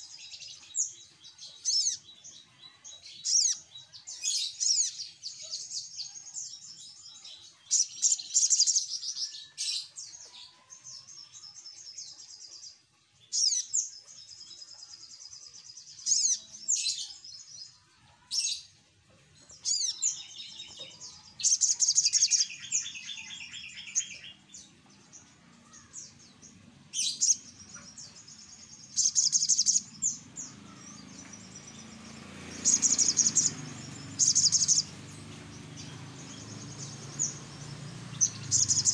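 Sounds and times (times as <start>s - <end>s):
bird chirping and trilling: 0.0s - 18.8s, 19.4s - 38.9s.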